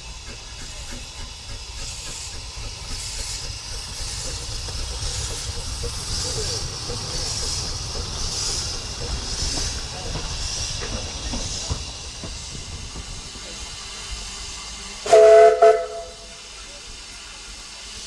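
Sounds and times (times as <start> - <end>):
steam locomotive hissing steam: 0.0 - 18.0.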